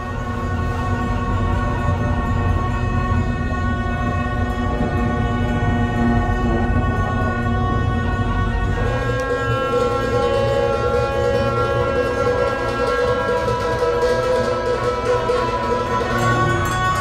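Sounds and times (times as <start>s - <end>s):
constant low drone: 0.0s - 17.0s
sustained horn tones: 0.0s - 17.0s.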